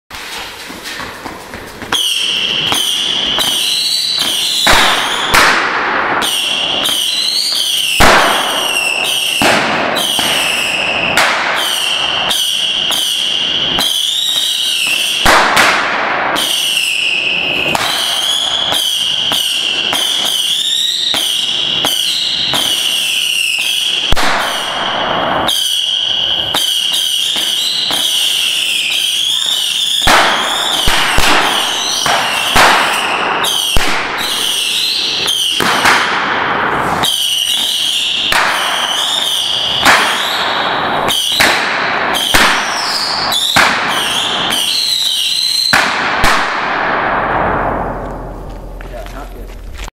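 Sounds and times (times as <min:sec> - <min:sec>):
whistling firework rockets: 0:01.9 - 0:48.5
sharp firework bangs: 0:01.9 - 0:48.8
crackling firework pops: 0:01.9 - 0:49.9.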